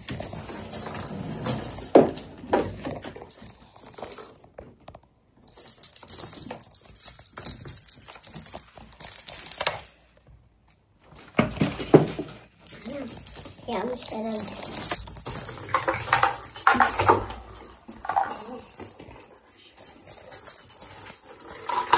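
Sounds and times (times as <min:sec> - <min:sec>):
plastic rattle balls knocking on floor: 0:00.0 - 0:10.0, 0:11.2 - 0:19.2, 0:20.9 - 0:21.9.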